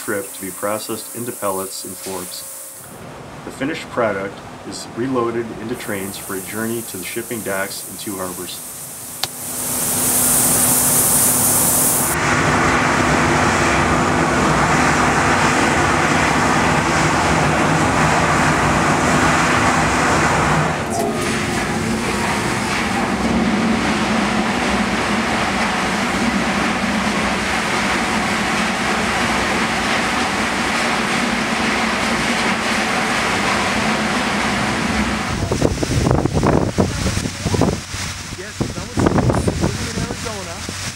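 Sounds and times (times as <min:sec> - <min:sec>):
rail car and machinery noise: 0:00.0 - 0:40.9.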